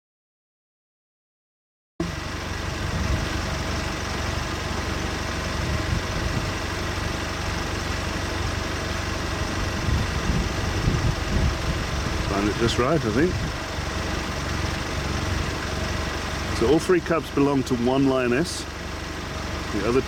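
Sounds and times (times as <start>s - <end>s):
vehicle engine idling: 2.0s - 20.0s.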